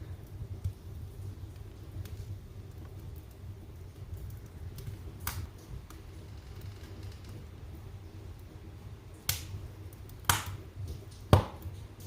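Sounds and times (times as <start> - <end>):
fire crackling pops: 0.0 - 12.0
low steady rumble: 0.0 - 12.0.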